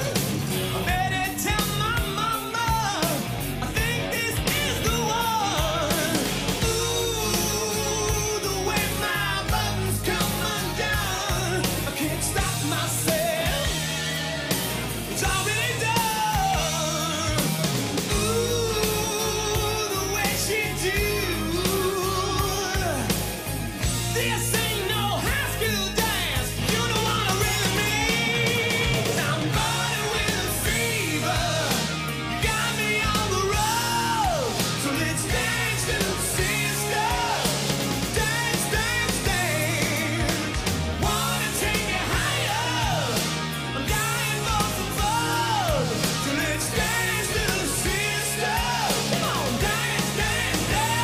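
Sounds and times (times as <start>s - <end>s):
person singing: 0.0s - 23.3s, 23.9s - 51.0s
metal band playing: 0.0s - 51.0s.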